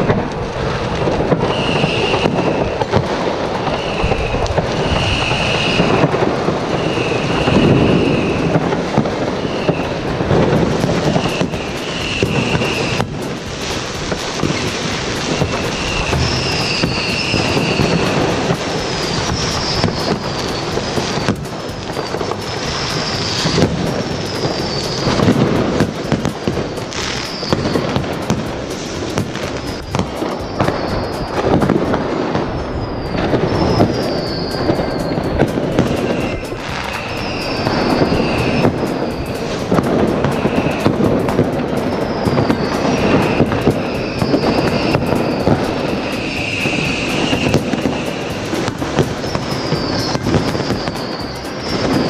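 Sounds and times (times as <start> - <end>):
falling firework whistles: 0.0 - 52.0
fireworks crackling and banging: 0.0 - 52.0.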